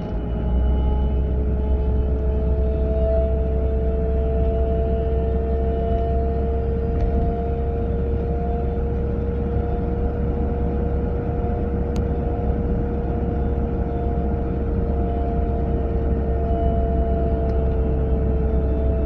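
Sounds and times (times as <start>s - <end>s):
low road rumble: 0.0s - 19.0s
steady whine: 0.0s - 19.0s.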